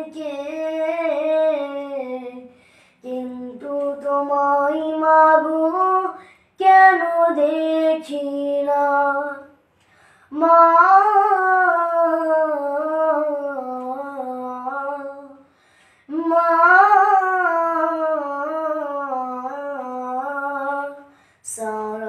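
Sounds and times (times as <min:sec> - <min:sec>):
boy singing unaccompanied: 0:00.0 - 0:09.6, 0:10.3 - 0:15.4, 0:16.1 - 0:22.0.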